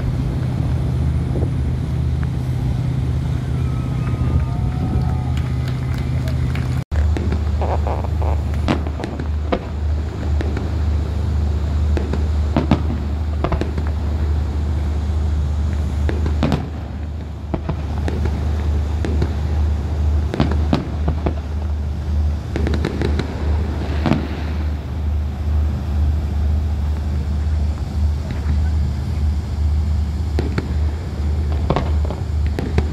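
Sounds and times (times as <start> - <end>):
steady low drone: 0.0 - 32.9
fireworks bangs and crackles: 4.0 - 32.9.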